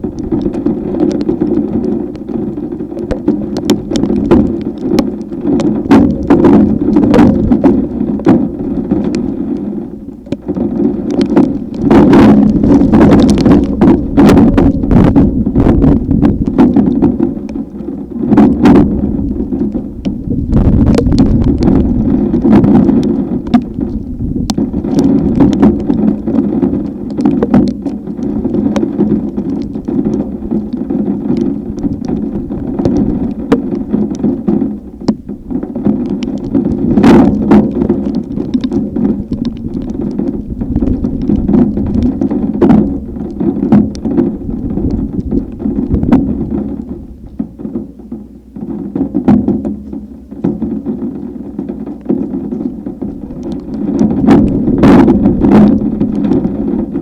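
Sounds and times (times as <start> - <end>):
storm wind buffeting microphone: 0.0 - 47.7, 48.9 - 57.0
rain beating down: 0.0 - 57.0
raindrops tapping close by: 0.0 - 57.0.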